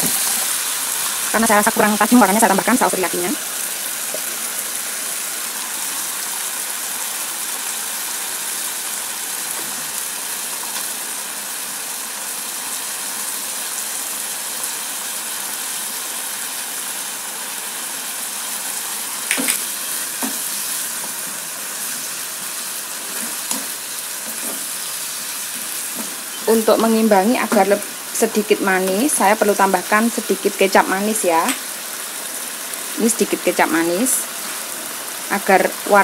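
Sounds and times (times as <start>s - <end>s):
meat and onions sizzling in pan: 0.0s - 36.0s.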